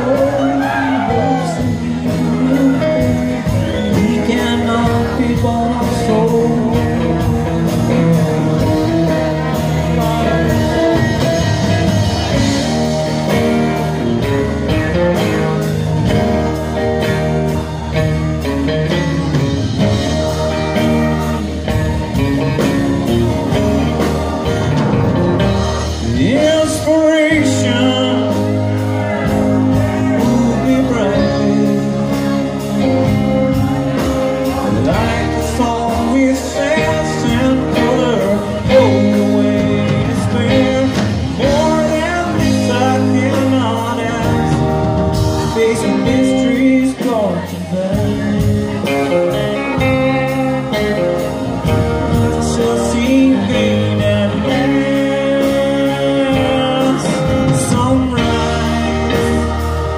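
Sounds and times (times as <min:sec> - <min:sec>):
drums with steady beat: 0:00.0 - 0:59.9
guitars: 0:00.0 - 0:59.9
live band music: 0:00.0 - 0:59.9.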